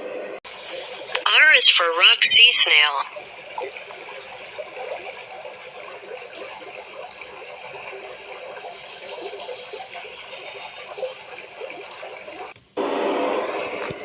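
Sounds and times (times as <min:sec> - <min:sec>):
aquarium water bubbling: 0:00.2 - 0:14.0.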